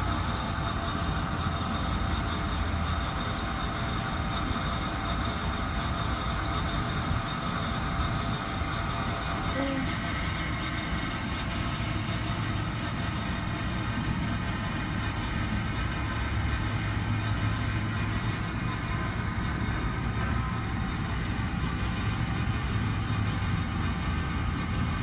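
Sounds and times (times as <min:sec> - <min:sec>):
air conditioner unit humming: 0:00.0 - 0:25.0.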